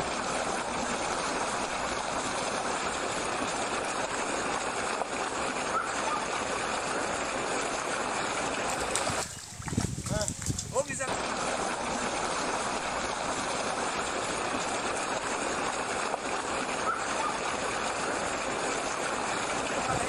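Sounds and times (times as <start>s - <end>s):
water rushing and churning: 0.0s - 20.0s.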